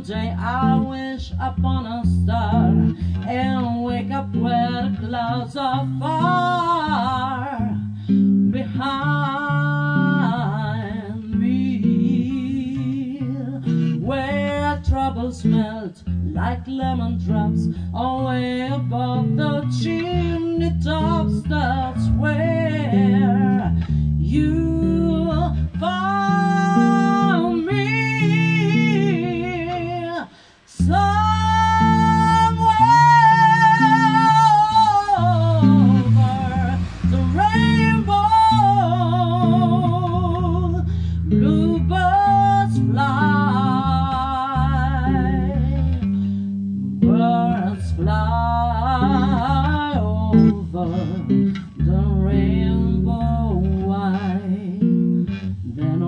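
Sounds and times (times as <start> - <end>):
person singing with vibrato: 0.0 - 46.3, 47.0 - 56.0
plucked guitar: 0.0 - 56.0.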